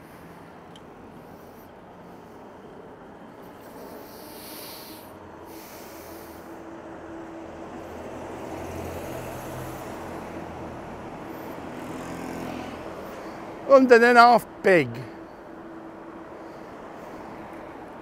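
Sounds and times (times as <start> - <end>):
bus engine rumble: 0.0 - 18.0
wind and road noise: 0.0 - 18.0.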